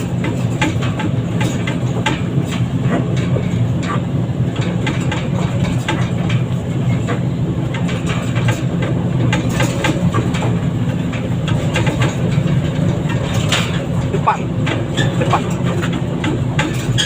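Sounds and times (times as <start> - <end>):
diesel machinery running: 0.0 - 17.0
short clanks and rattles: 0.0 - 17.0.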